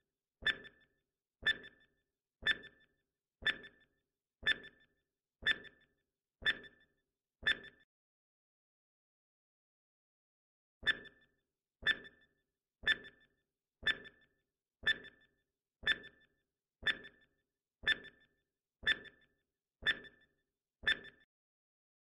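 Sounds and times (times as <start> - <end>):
timer ticks with ringing tone: 0.4 - 7.9, 10.8 - 21.3.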